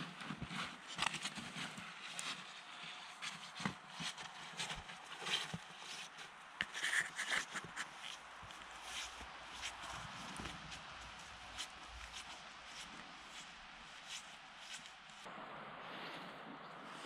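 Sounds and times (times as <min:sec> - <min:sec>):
footsteps in snow and undergrowth: 0:00.0 - 0:15.3.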